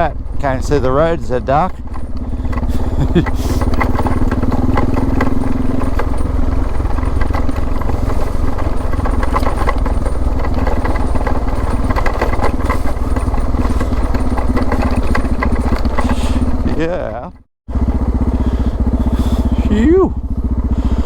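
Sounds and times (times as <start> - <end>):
clicks and rattles: 0.0 - 17.5
motorcycle engine running: 0.0 - 21.0.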